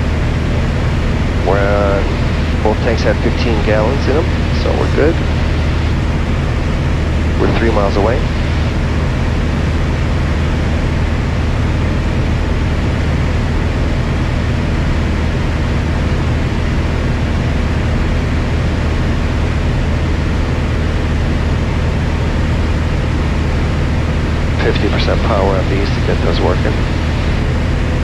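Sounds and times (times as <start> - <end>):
air rush in cabin: 0.0 - 28.0
propeller plane engine drone: 0.0 - 28.0.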